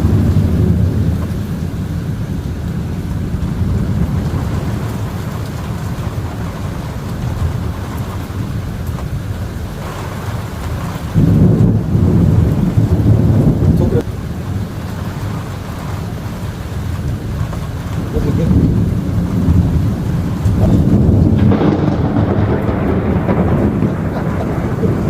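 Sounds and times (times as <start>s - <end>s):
loud low thunderclap: 0.0s - 9.1s, 9.7s - 15.4s, 17.0s - 25.0s
storm hiss: 0.0s - 25.0s
thunder rumbling: 0.0s - 25.0s.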